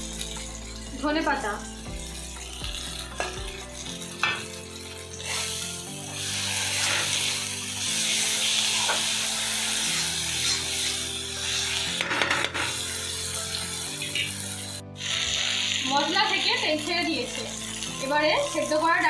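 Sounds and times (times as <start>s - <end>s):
background music with held chords: 0.0s - 19.0s
masala sizzling in a pan: 0.0s - 19.0s.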